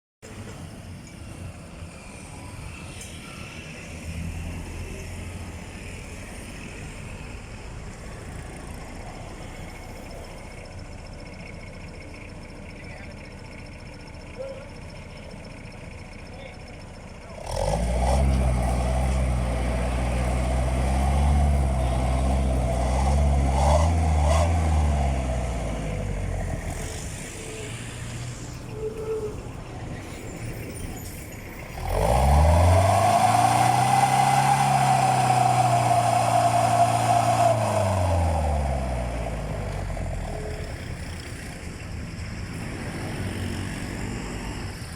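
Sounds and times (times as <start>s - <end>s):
vehicle engine idling and revving: 0.2s - 44.9s.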